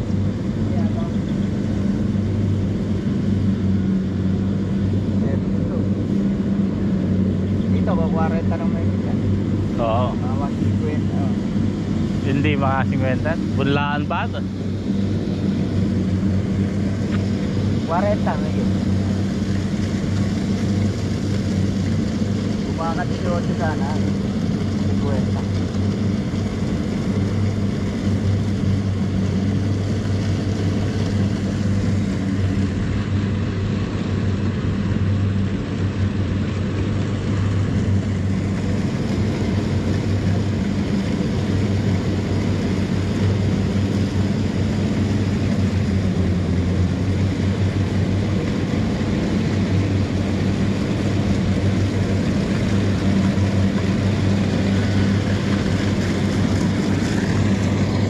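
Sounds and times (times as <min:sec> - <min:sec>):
harvester engine droning: 0:00.0 - 0:58.0.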